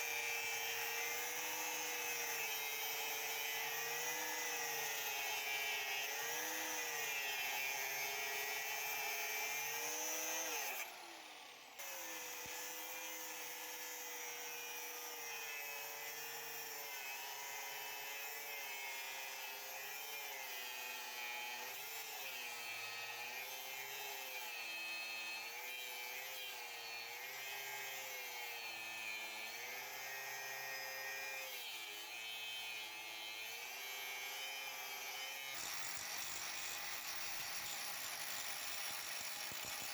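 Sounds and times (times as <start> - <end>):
electric power tool on metal: 0.0 - 39.9.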